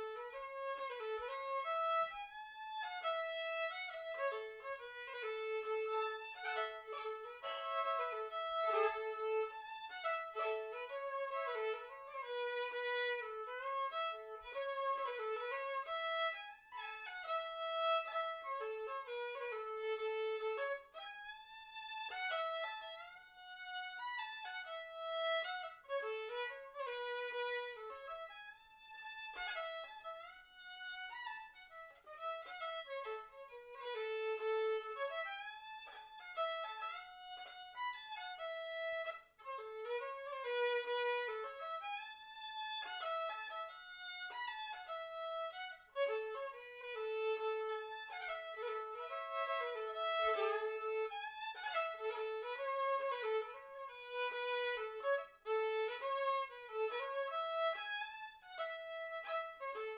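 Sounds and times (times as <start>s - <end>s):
solo fiddle dance tune: 0.0s - 59.9s.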